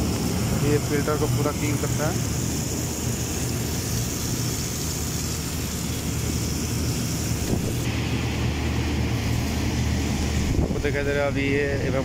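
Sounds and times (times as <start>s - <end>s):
low machine hum: 0.0s - 12.0s
water jet hissing: 0.0s - 12.0s.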